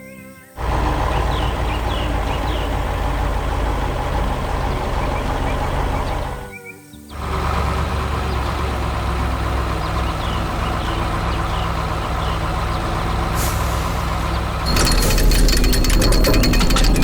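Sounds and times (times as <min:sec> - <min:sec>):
heavy vehicle engine idling: 0:00.6 - 0:06.5, 0:07.2 - 0:17.0.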